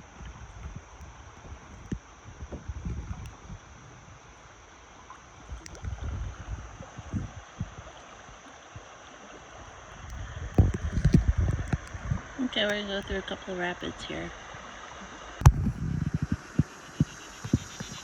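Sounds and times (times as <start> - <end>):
wind buffeting on microphone: 0.0 - 4.4, 5.3 - 8.9, 9.5 - 18.0
river water flowing and rippling: 0.0 - 18.0.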